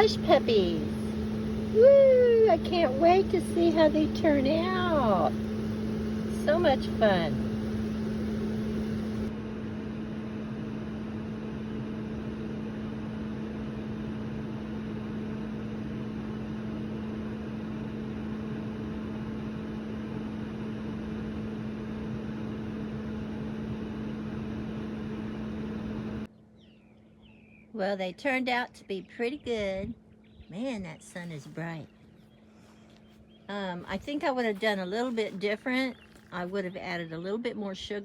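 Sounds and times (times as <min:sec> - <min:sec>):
low hum: 0:00.0 - 0:37.4.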